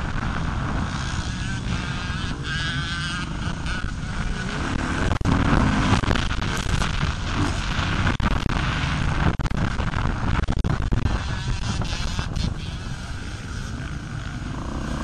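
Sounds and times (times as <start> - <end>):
motocross bike engine running hard: 0.0 - 15.0
wind rumble on microphone: 0.0 - 15.0.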